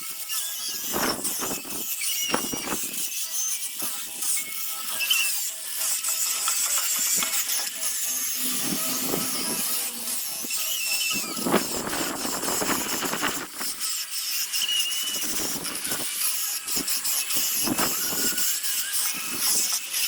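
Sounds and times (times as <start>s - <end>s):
brief squeals of sander: 0.0s - 20.0s
power sander rasping on wood: 0.0s - 20.0s.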